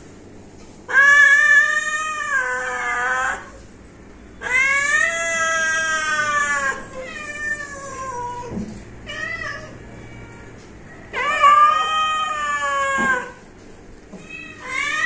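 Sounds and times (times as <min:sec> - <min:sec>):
cats meowing: 0:00.9 - 0:03.6, 0:04.4 - 0:13.4, 0:14.1 - 0:15.0.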